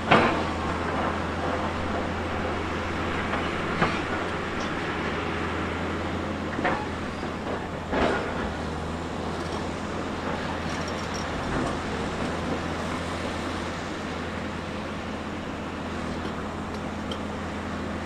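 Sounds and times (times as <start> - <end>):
bulldozer diesel engine: 0.0 - 18.0.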